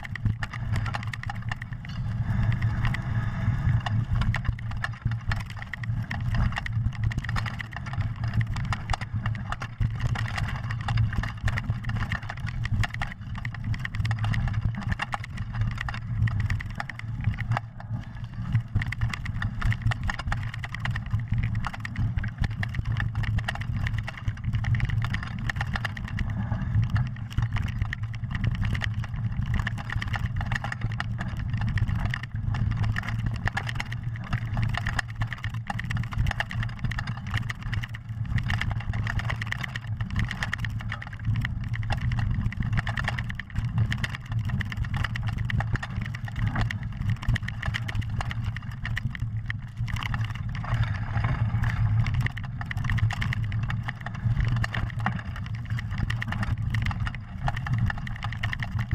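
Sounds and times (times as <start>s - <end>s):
bike rattling over bumps: 0.0s - 58.9s
wind and tyre noise: 0.0s - 58.9s.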